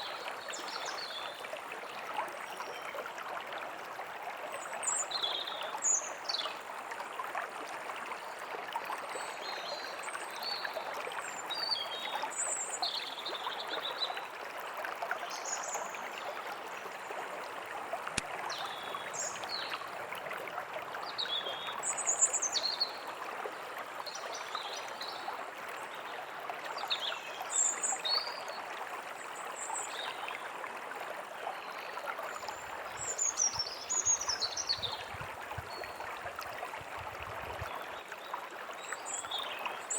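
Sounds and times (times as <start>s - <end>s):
running stream: 0.0s - 39.9s.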